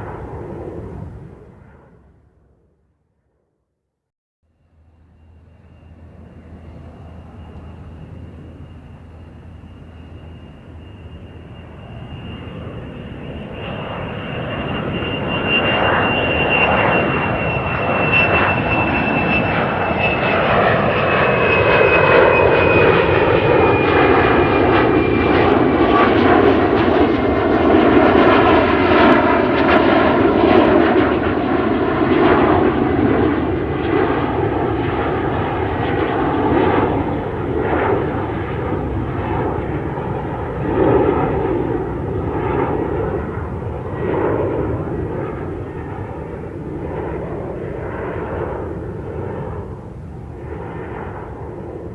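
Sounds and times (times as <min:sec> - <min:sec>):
airplane engine roar: 0:00.0 - 0:02.8, 0:04.5 - 0:51.9
high engine whine: 0:04.5 - 0:51.9.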